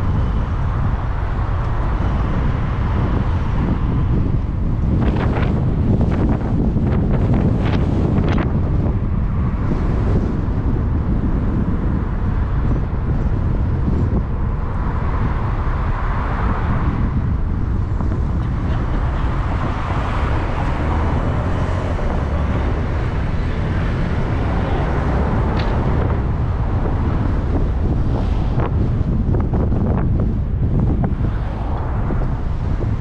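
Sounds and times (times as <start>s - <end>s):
road and traffic rumble: 0.0s - 33.0s
wind buffeting microphone: 0.0s - 33.0s.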